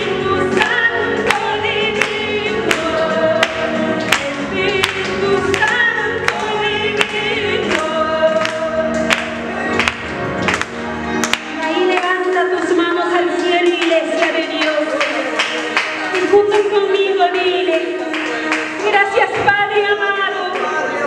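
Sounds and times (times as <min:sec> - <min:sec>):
women singing worship song: 0:00.0 - 0:09.4, 0:11.6 - 0:20.6.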